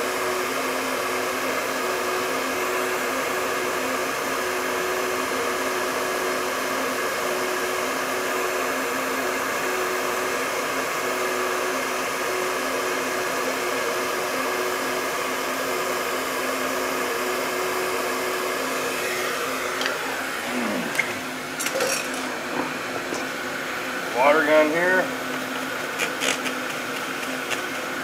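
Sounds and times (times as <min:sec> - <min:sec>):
fan winding down: 0:00.0 - 0:28.0
heat gun blowing: 0:00.0 - 0:28.0.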